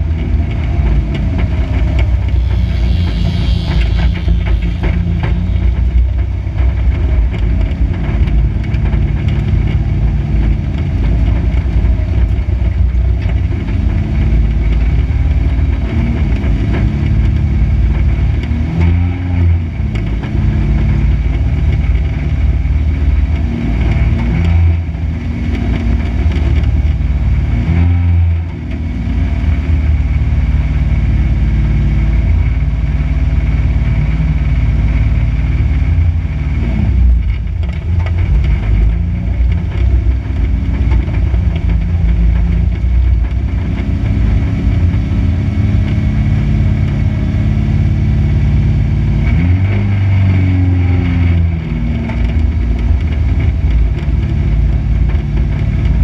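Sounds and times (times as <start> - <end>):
race car engine rumbling: 0.0 - 56.0.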